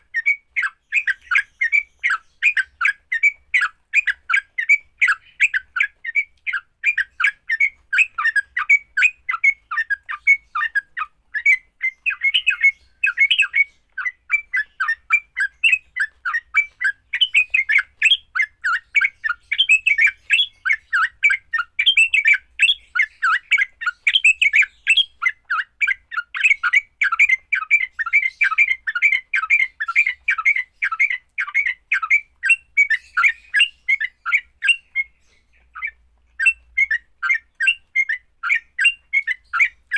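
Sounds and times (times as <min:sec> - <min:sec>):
bulbul chattering call: 0:00.2 - 0:39.9.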